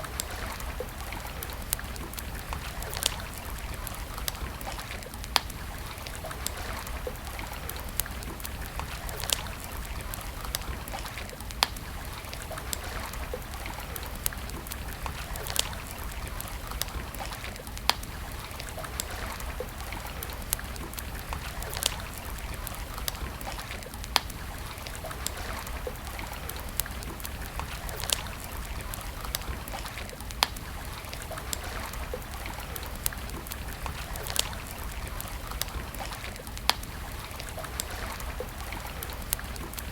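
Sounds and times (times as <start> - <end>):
campfire crackling and popping: 0.0 - 39.9
flowing water: 0.0 - 39.9.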